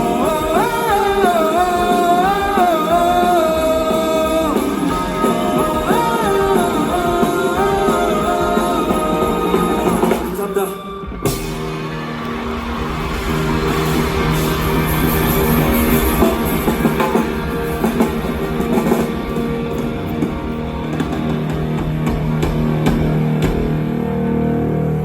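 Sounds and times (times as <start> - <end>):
drum kit and cymbal hits: 0.0 - 24.5
electric guitar chords: 0.0 - 25.0.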